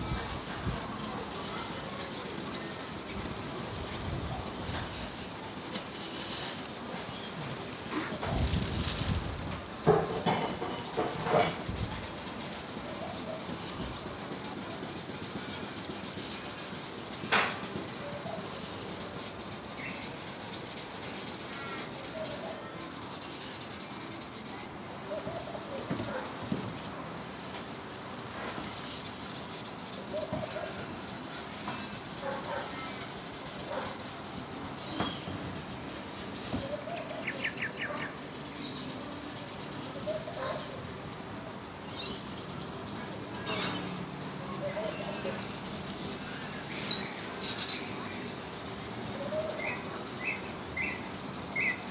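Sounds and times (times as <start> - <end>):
pad rubbing on plastic lens: 0.0 - 51.9.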